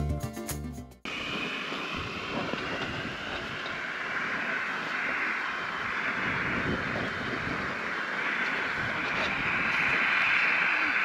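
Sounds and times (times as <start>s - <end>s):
gas burner hissing: 1.1s - 11.0s.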